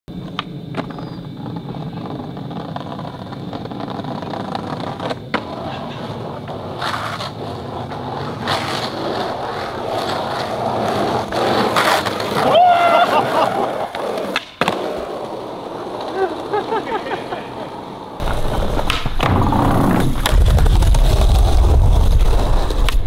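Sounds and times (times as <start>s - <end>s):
skateboard clacks: 0.1s - 23.0s
skateboard scuffing: 0.1s - 23.0s
skateboard wheels rolling on asphalt: 0.1s - 23.0s.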